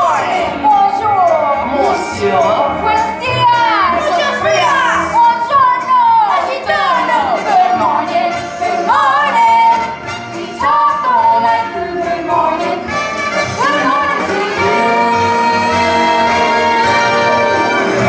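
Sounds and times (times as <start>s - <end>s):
instrumental accompaniment: 0.0s - 18.0s
singers performing a show tune: 0.0s - 18.0s.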